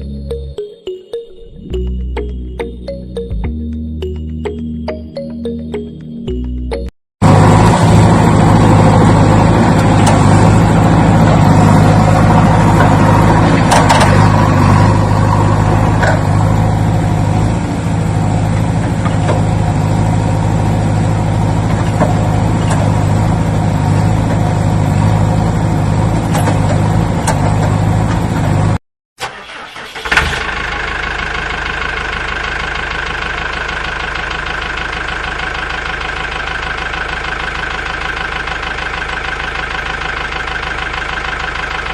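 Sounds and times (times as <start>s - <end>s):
vehicle engine running: 1.7s - 28.8s, 29.4s - 41.9s
engine idling: 7.2s - 41.9s.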